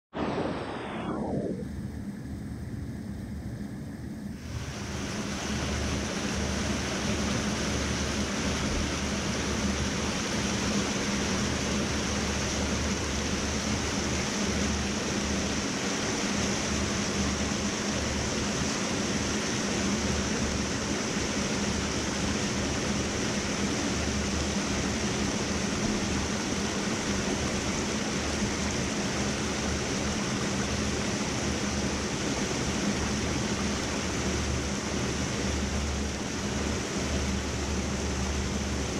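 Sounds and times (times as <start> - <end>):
stream rushing over rocks: 4.4 - 38.9.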